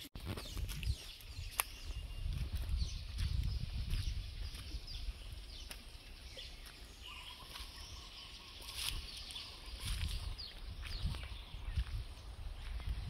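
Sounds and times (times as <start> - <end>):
footsteps on leaf litter: 0.0 - 13.0
handheld camera rumble: 0.0 - 13.0
birds chirping: 0.2 - 13.0.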